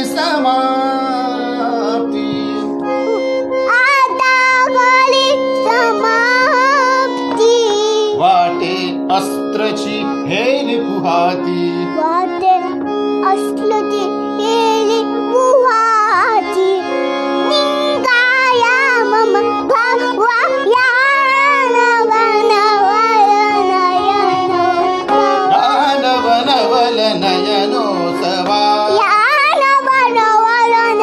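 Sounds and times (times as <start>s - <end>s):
person singing ornamented melody: 0.0s - 16.9s, 17.5s - 31.0s.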